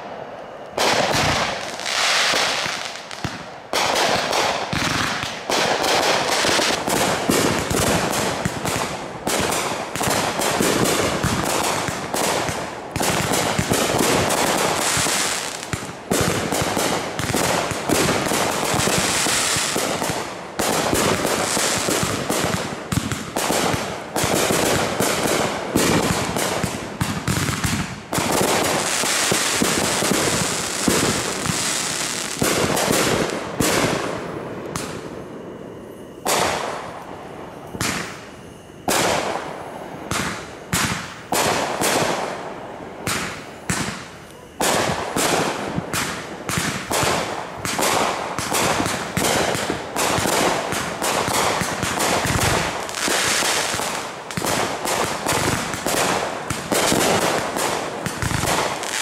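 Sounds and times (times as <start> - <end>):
fireworks bangs and crackle: 0.0 - 59.0.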